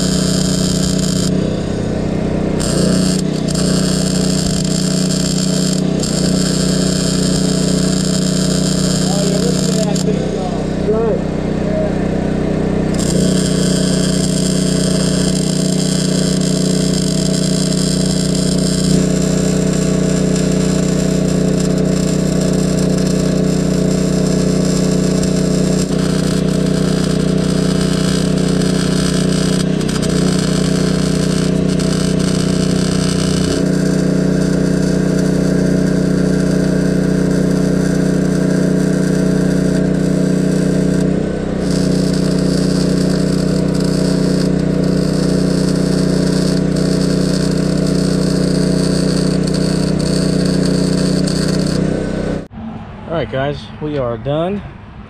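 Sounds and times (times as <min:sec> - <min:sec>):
welding arc hissing and crackling: 0:00.0 - 0:11.2, 0:12.9 - 0:52.5
generator engine running: 0:00.0 - 0:54.6.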